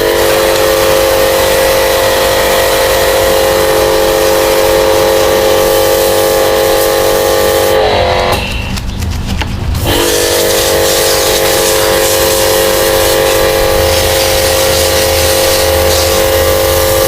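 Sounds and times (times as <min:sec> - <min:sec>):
water spray hissing: 0:00.0 - 0:08.4, 0:09.8 - 0:17.0
pressure washer motor whine: 0:00.0 - 0:08.7, 0:09.8 - 0:17.0.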